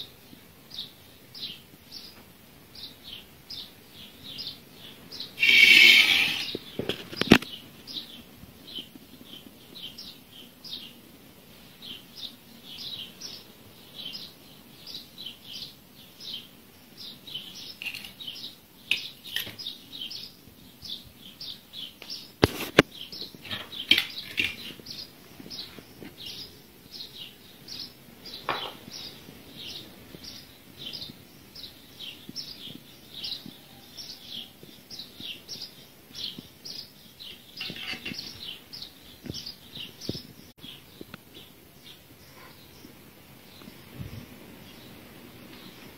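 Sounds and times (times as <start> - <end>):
bird chirping: 0.7 - 11.0, 11.8 - 45.9.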